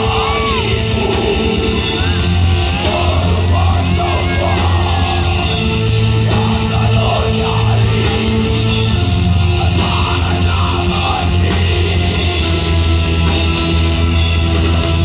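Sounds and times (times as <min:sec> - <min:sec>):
bass guitar: 0:00.0 - 0:15.0
distorted electric guitars: 0:00.0 - 0:15.0
drum kit: 0:00.0 - 0:15.0.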